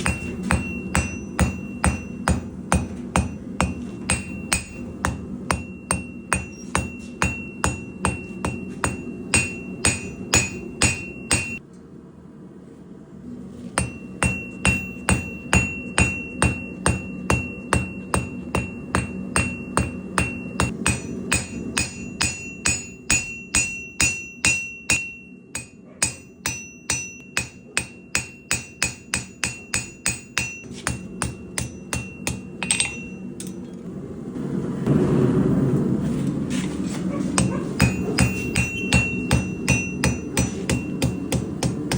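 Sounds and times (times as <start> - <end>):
hammer ringing on anvil: 0.0 - 11.6, 13.8 - 33.7, 37.4 - 41.9
steady low hum: 0.0 - 41.9.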